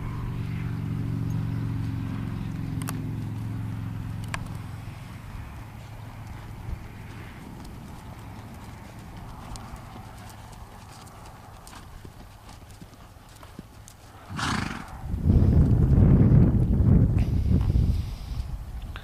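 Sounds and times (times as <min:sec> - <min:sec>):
horse hooves on sand: 0:00.7 - 0:18.7.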